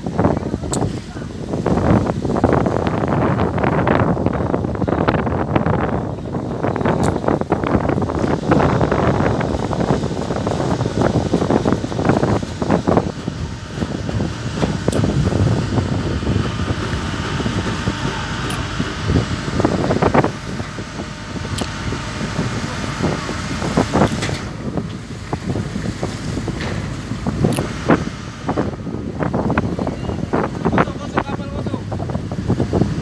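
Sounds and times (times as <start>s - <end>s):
wind blowing across microphone: 0.0s - 33.0s.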